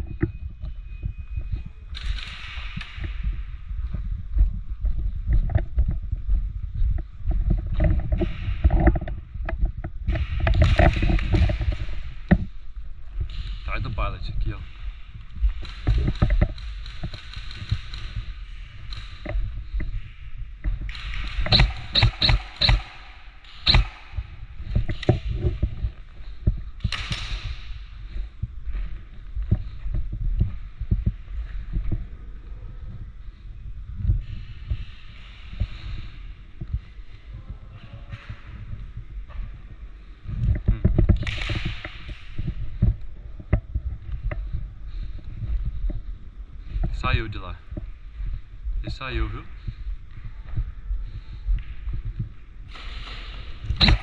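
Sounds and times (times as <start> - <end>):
rustling of gear: 0.0 - 54.0.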